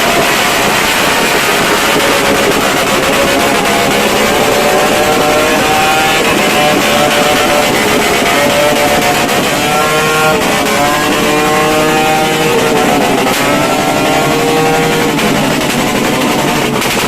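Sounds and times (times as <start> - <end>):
whistling fireworks whines: 0.0 - 17.0.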